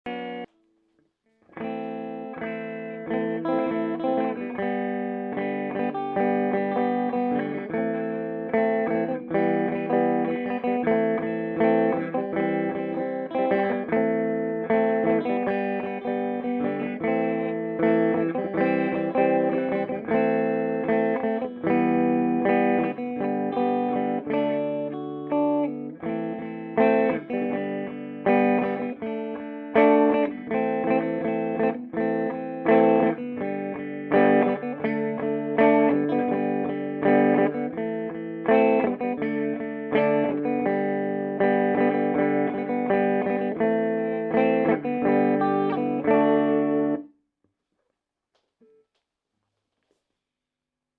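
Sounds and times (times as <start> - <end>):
clean electric guitar chords: 1.6 - 47.0.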